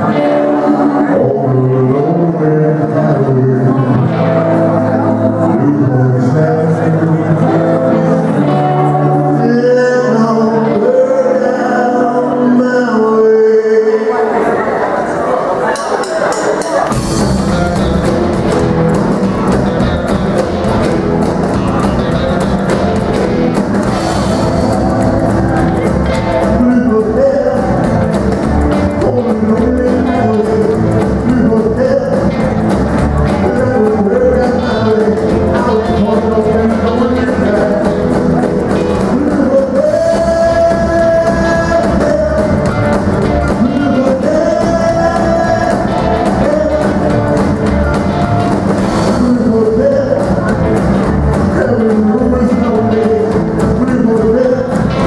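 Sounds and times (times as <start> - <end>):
man singing: 0.0 - 14.6, 16.2 - 55.0
live rock and roll band: 0.0 - 55.0.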